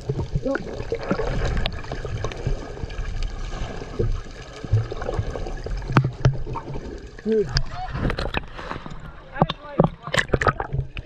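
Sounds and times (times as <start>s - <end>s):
underwater bubbling and gurgling: 0.0s - 11.0s.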